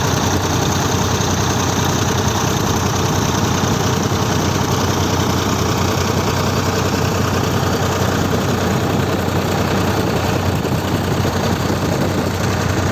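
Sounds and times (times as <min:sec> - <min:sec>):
diesel engine humming: 0:00.0 - 0:12.9.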